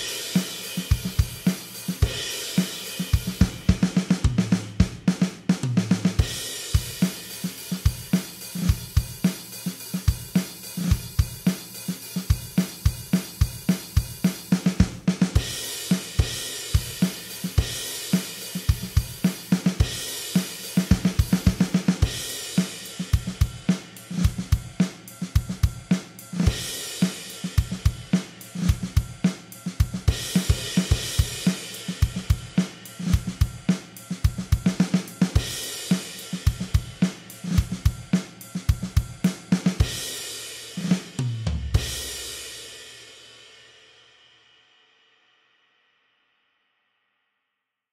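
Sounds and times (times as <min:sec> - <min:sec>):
drum kit rock beat: 0:00.0 - 0:43.6.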